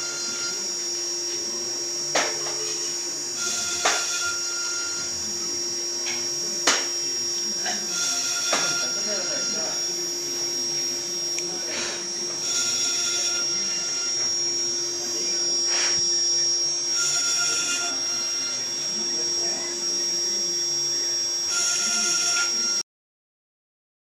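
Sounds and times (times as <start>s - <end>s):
milling machine whine: 0.0s - 22.8s
rushing machining noise: 0.0s - 22.8s.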